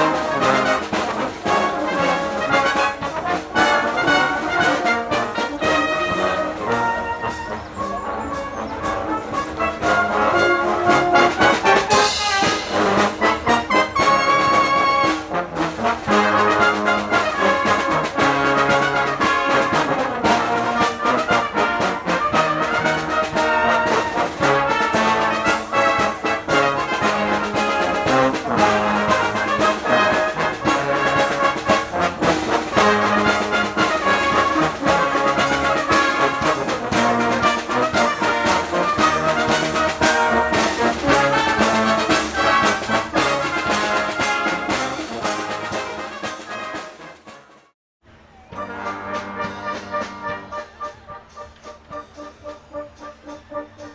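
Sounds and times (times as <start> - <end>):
brass band playing: 0.0 - 53.9.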